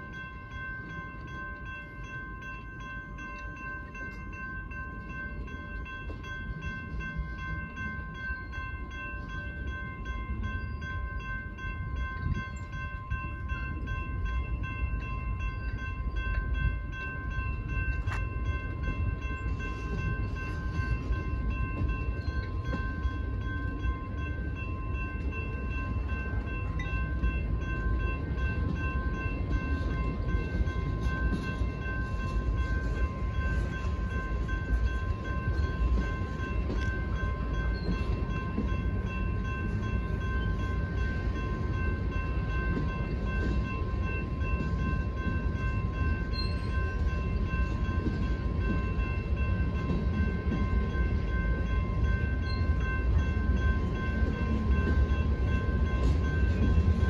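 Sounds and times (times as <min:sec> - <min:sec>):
crossing warning bell ringing: 0:00.0 - 0:57.0
freight car wheels rumbling on rail: 0:00.0 - 0:57.0.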